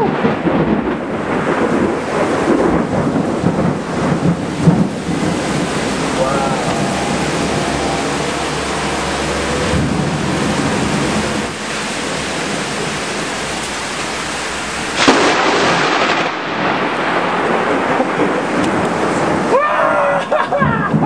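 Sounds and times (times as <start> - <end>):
loud crack of thunder: 0.0 - 13.6, 14.8 - 19.6, 20.2 - 21.0
low rumble of thunder: 0.0 - 19.6, 20.3 - 21.0
heavy rain falling: 0.0 - 21.0.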